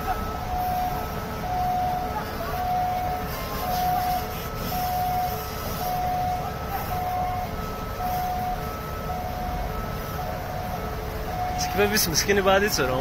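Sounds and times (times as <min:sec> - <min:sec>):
two-tone siren: 0:00.0 - 0:13.0.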